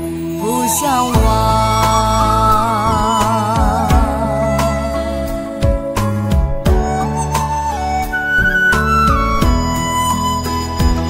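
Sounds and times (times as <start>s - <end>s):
instrumental pop ballad: 0.0s - 11.0s.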